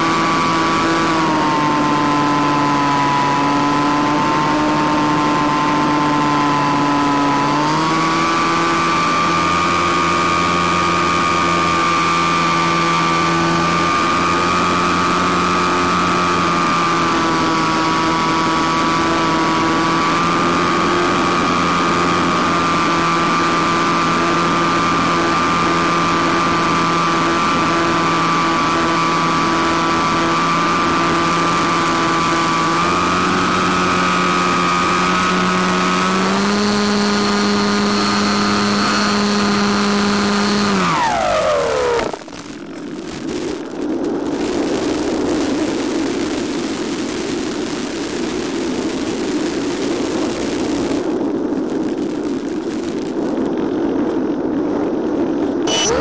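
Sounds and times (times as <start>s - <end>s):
electric motor and propeller whining: 0.0s - 46.6s, 55.4s - 56.0s.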